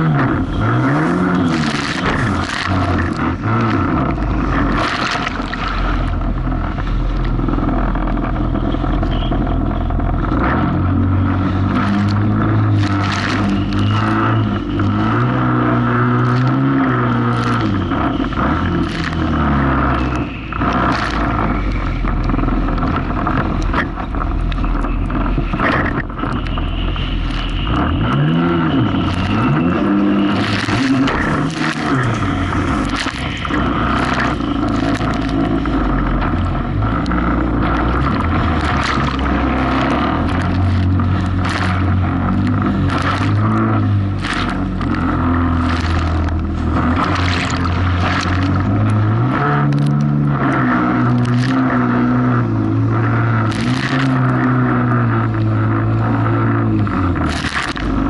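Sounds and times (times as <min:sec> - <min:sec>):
water splashing against hull: 0:00.0 - 0:15.0, 0:16.2 - 0:58.0
jet ski engine: 0:00.0 - 0:58.0.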